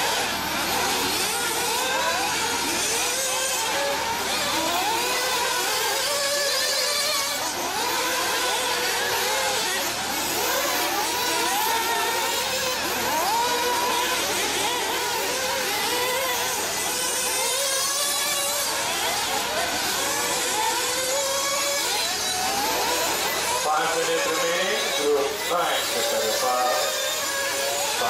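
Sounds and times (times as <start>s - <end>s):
rc car engines revving: 0.0s - 28.0s.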